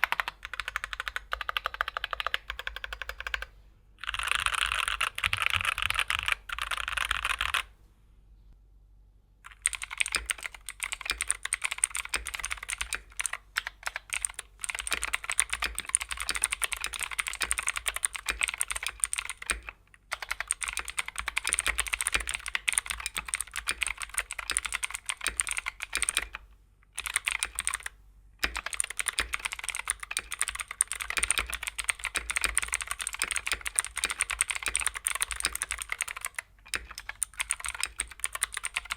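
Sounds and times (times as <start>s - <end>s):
mechanical keyboard typing: 0.0s - 7.7s, 9.5s - 38.9s.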